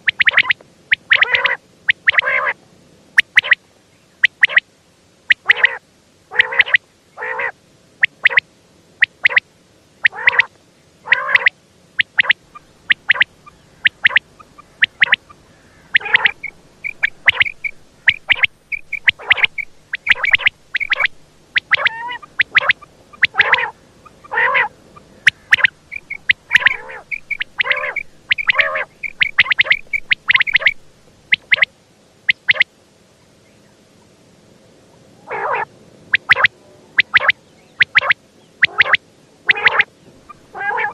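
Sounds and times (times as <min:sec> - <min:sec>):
quail calling: 0:00.0 - 0:02.6, 0:03.2 - 0:03.6, 0:04.2 - 0:04.6, 0:05.3 - 0:08.4, 0:09.0 - 0:09.4, 0:10.0 - 0:31.7, 0:32.3 - 0:32.7, 0:35.2 - 0:40.9.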